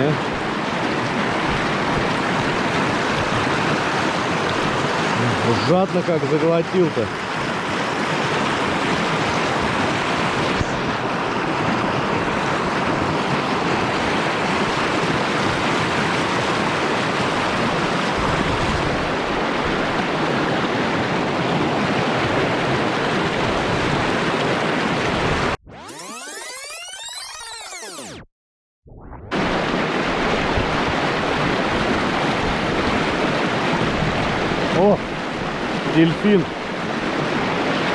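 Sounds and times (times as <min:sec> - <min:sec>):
river rushing over stones: 0:00.0 - 0:25.6, 0:29.3 - 0:37.9.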